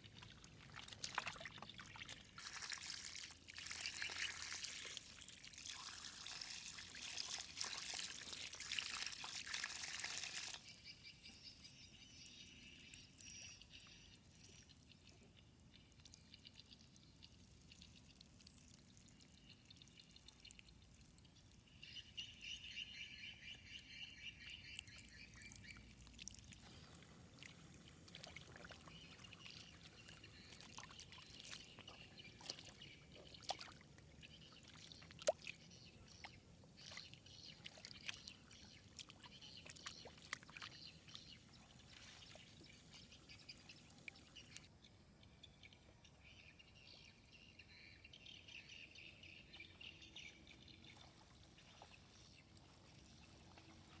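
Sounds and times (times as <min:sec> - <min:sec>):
small splashes and clicks: 0:00.0 - 0:10.8, 0:12.9 - 0:21.7, 0:24.4 - 0:46.9, 0:50.5 - 0:54.0
water pouring and trickling: 0:00.0 - 0:10.9, 0:12.8 - 0:21.7, 0:24.6 - 0:46.9, 0:50.2 - 0:54.0.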